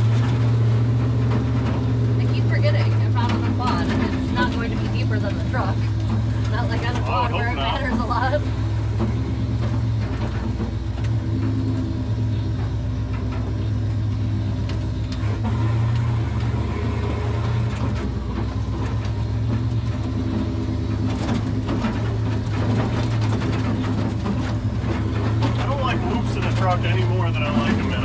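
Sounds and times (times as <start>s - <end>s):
knocks and rattles: 0.0s - 28.0s
truck engine running: 0.0s - 28.0s.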